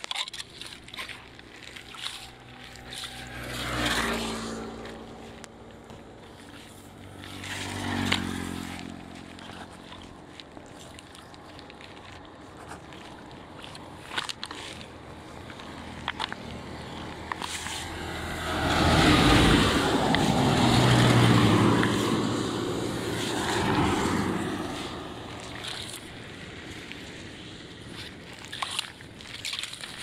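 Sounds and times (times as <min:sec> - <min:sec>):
tyres swishing through water: 0:00.0 - 0:30.0
vehicle engine hum: 0:00.0 - 0:30.0.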